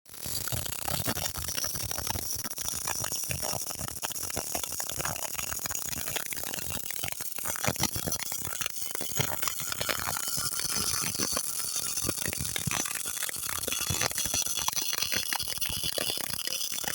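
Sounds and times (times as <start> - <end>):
welding arc crackling: 0.3 - 16.9.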